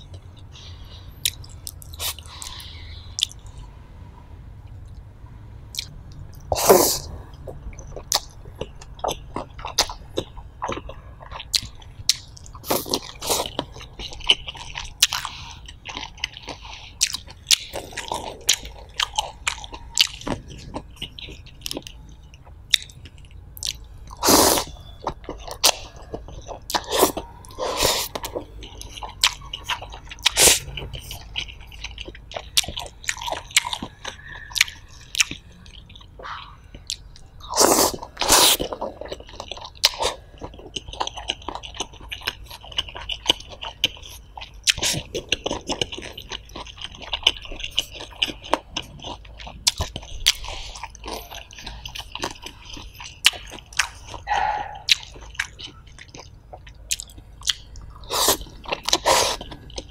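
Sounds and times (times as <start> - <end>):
chewing fried noodles: 0.0 - 3.7, 5.7 - 59.9.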